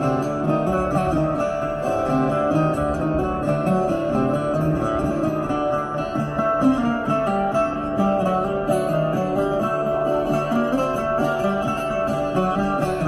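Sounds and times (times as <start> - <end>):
plucked string instrument melody: 0.0 - 13.0.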